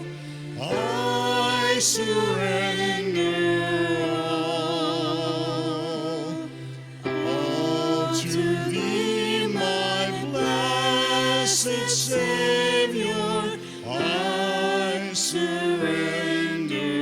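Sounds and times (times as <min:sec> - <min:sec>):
steady musical accompaniment: 0:00.0 - 0:17.0.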